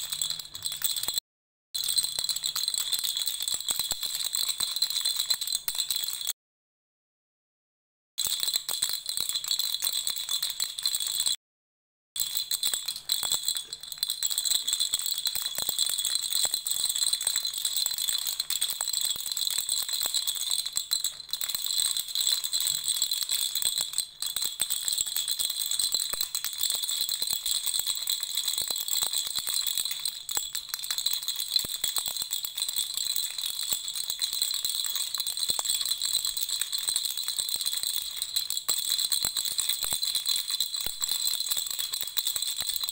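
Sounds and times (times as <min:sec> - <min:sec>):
baby rattle shaken: 0:00.0 - 0:01.2, 0:01.8 - 0:06.4, 0:12.2 - 0:42.9.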